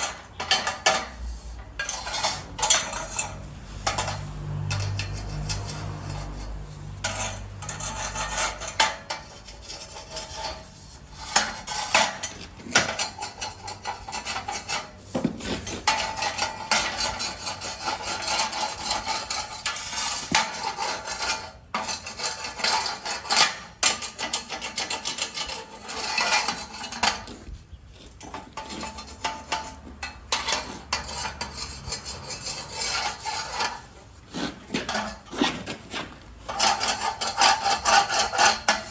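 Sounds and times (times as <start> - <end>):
metal tools scraping and clinking: 0.0 - 38.9.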